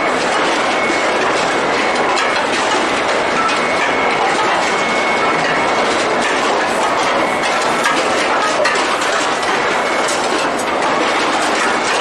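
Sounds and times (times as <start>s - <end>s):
chain conveyor rattling: 0.0s - 12.0s.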